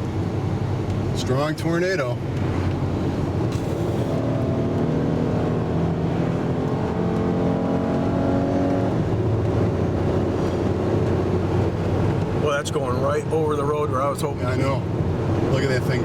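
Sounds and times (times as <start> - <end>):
car engine from inside: 0.0 - 16.0
road noise: 0.0 - 16.0.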